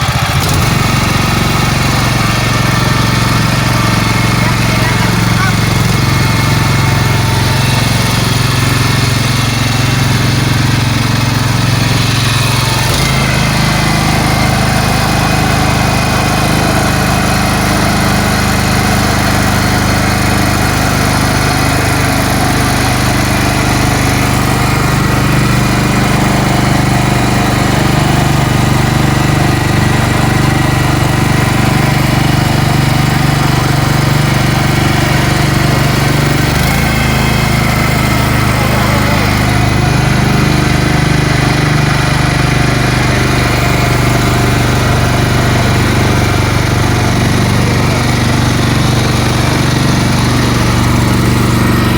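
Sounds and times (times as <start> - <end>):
small boat engine running: 0.0 - 51.9.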